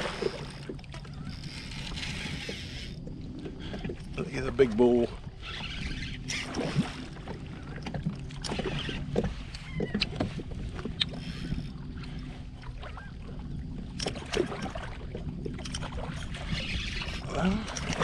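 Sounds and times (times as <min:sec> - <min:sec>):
water lapping against a hull: 0:00.0 - 0:18.0.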